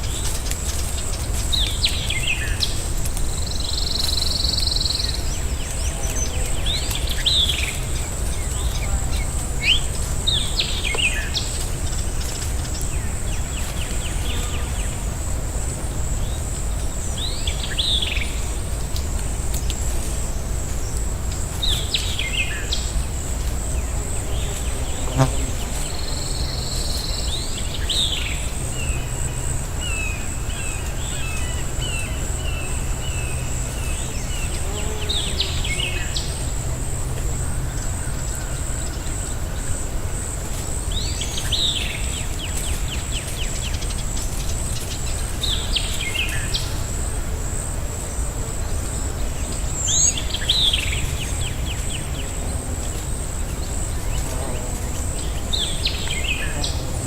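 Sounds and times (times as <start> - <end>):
insect pulsing buzz: 0.0 - 57.0.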